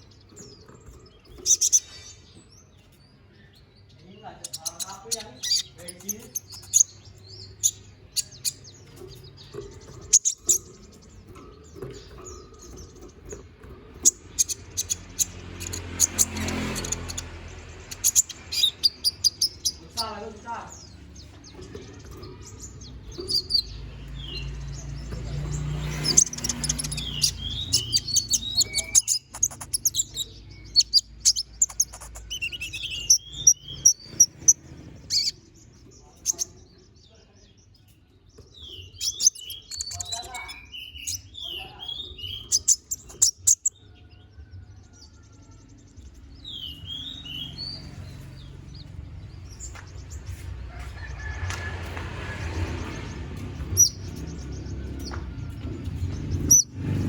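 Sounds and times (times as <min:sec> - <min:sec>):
bird chirping and trilling: 0:00.0 - 0:44.6, 0:46.0 - 0:49.8, 0:52.8 - 0:57.0.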